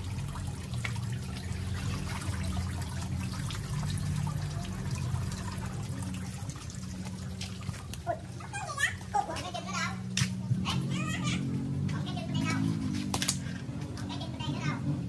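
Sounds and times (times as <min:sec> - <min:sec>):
water running and dripping: 0:00.0 - 0:14.2.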